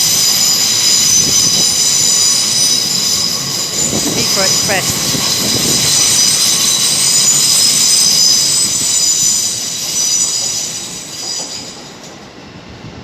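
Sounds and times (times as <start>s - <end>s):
electric train squealing: 0.0s - 12.6s.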